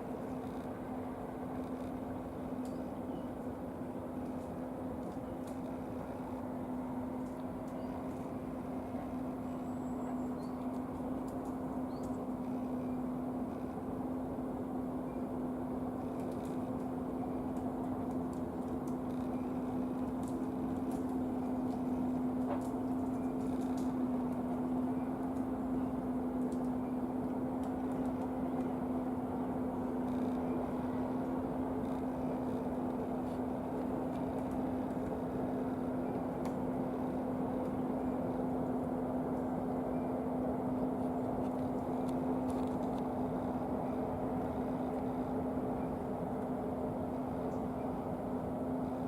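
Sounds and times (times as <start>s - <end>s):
low mechanical drone: 0.0s - 49.0s.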